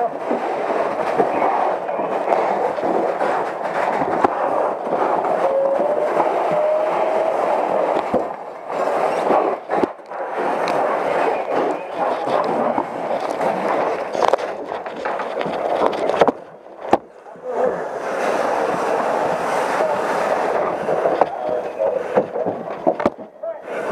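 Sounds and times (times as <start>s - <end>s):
fire hose water stream hissing: 0.0s - 15.7s, 17.2s - 22.9s.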